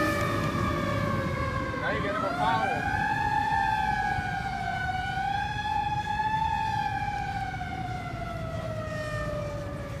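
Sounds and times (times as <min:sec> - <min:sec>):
fire truck siren wailing: 0:00.0 - 0:10.0.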